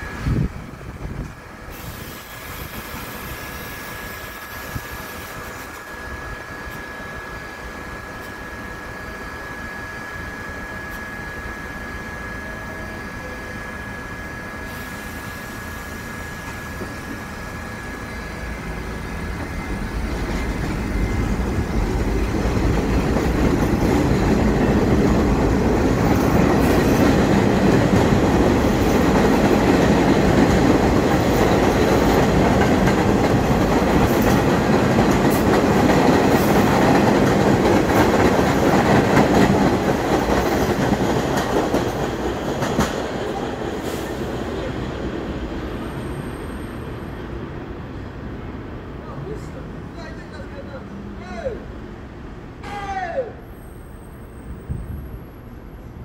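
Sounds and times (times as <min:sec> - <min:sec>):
subway train on tracks: 0:00.0 - 0:56.0.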